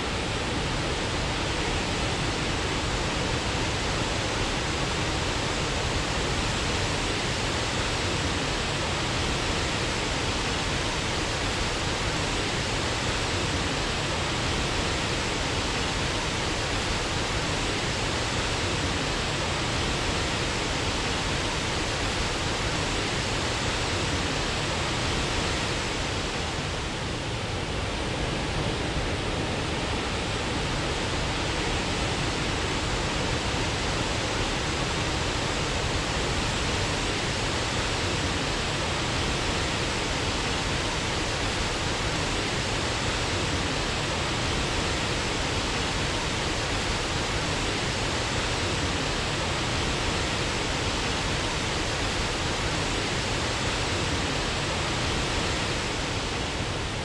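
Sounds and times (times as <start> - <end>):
waterfall rushing: 0.3 - 57.0.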